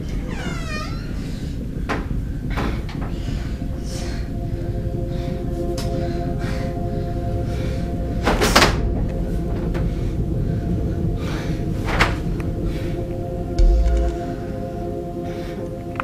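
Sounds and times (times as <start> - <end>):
background music drone: 1.2 - 16.0.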